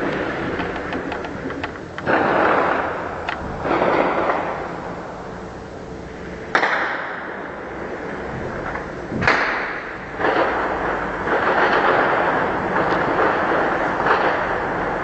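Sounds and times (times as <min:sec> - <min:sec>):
gunshots echoing off buildings: 0:00.0 - 0:05.4, 0:06.4 - 0:15.0.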